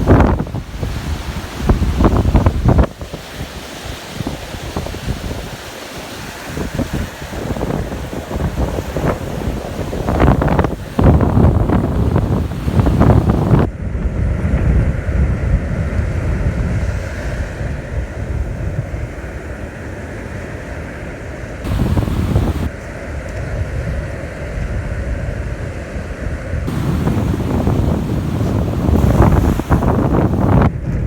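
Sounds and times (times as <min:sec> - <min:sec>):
wind buffeting microphone: 0:00.0 - 0:19.6, 0:21.6 - 0:31.0
surf washing on beach: 0:00.0 - 0:31.0.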